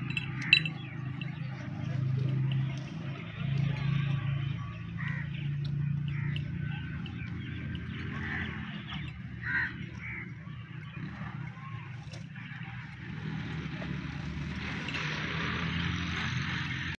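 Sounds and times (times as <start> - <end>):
birds calling: 0.0 - 16.9.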